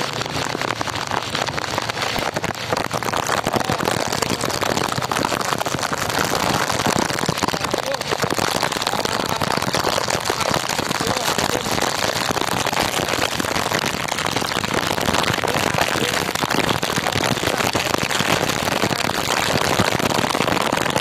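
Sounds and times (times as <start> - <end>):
heavy rain hiss: 0.0 - 21.0
raindrops hitting microphone: 0.0 - 21.0.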